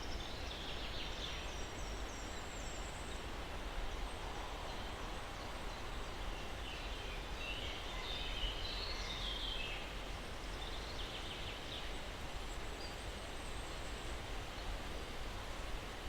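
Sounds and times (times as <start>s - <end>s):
breeze through pine trees: 0.0s - 16.0s.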